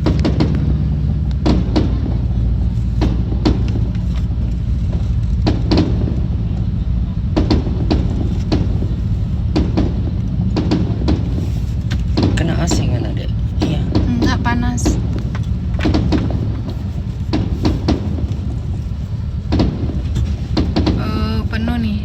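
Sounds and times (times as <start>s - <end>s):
fireworks bangs and crackles: 0.0s - 21.8s
car interior rumble: 0.0s - 22.0s.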